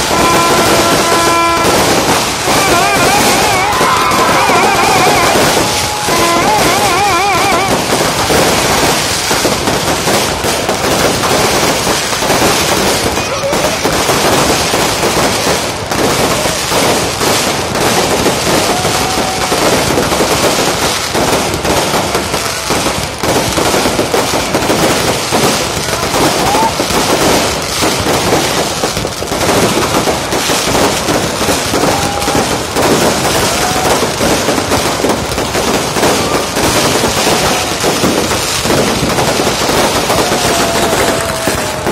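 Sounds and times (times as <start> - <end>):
crowd voices: 0.0 - 41.9
fireworks crackling and popping: 0.0 - 41.9
rising firework whistles: 0.0 - 41.9.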